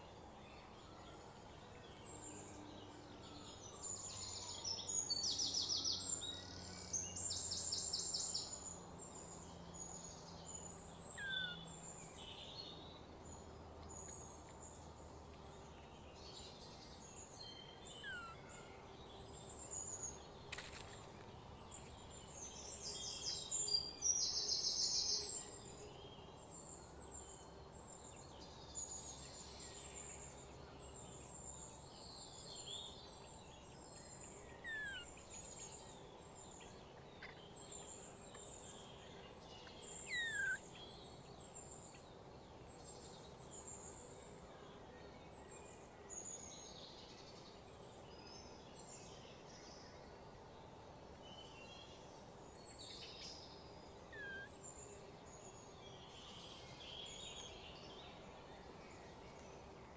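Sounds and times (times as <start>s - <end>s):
birds singing trills: 0.0s - 59.9s
low steady background hum: 0.0s - 59.9s.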